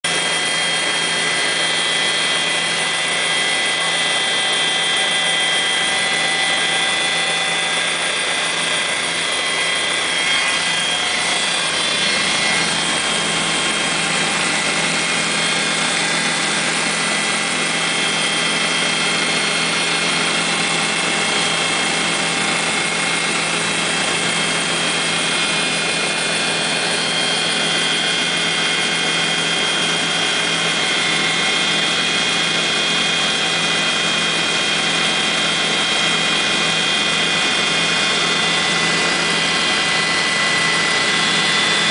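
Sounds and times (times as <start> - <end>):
helicopter engine and rotor: 0.0 - 41.9.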